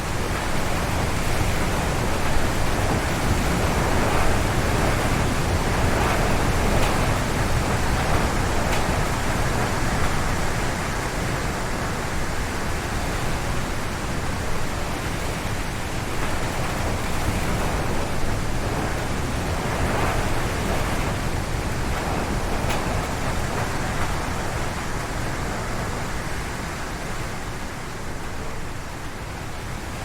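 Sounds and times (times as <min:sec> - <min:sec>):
wind gusting through trees: 0:00.0 - 0:30.0.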